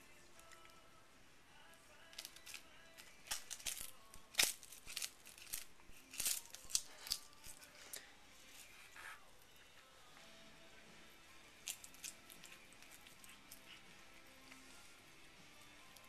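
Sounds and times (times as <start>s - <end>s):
cat chewing crunchy food: 2.0s - 10.2s, 11.3s - 16.0s.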